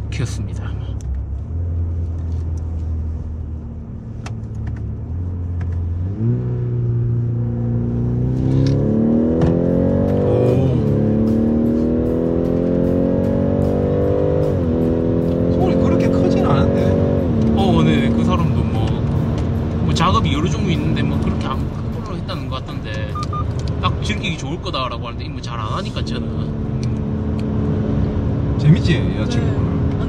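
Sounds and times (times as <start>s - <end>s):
car engine accelerating through exhaust: 1.1s - 24.3s, 25.8s - 30.0s.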